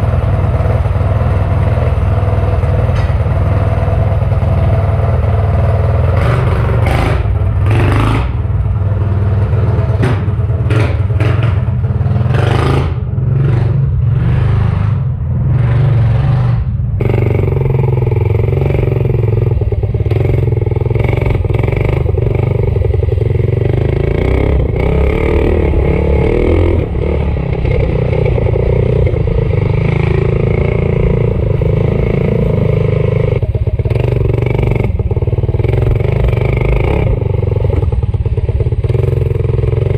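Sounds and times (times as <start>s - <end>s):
small engine running hard: 0.0s - 39.9s.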